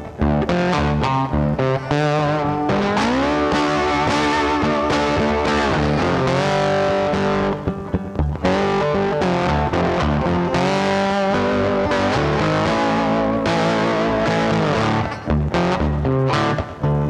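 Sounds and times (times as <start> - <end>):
distorted electric guitar music: 0.0 - 17.0.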